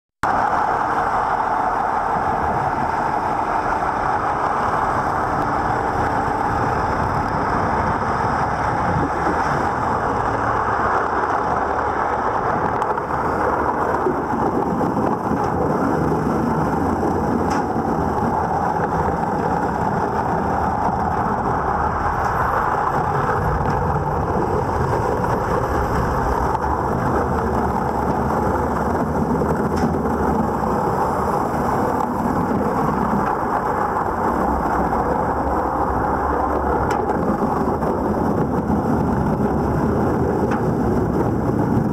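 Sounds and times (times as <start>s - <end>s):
underwater brush machine rushing: 0.2s - 41.9s.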